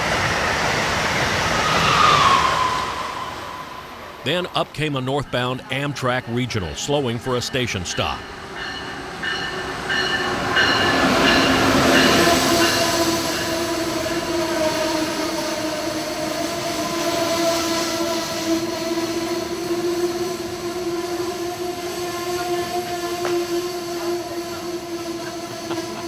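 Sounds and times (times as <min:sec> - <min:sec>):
passenger train rolling in: 0:00.0 - 0:25.8.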